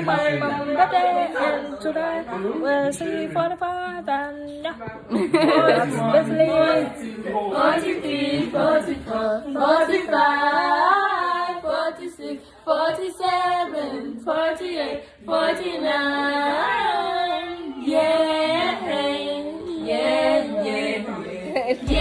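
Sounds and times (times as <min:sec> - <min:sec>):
women singing: 0:00.0 - 0:22.0.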